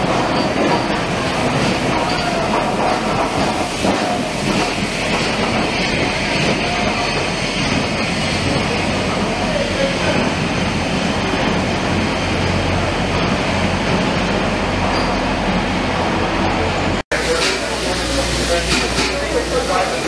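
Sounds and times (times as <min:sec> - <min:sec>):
steam hissing: 0:00.0 - 0:14.9, 0:17.1 - 0:20.0
train wheels clacking on rails: 0:00.0 - 0:15.7, 0:17.2 - 0:20.0.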